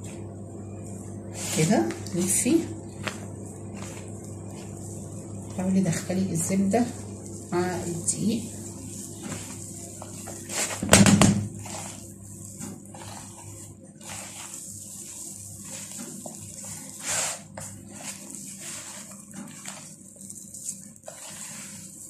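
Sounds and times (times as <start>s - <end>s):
hands rubbing dough in bowl: 0.0s - 22.0s.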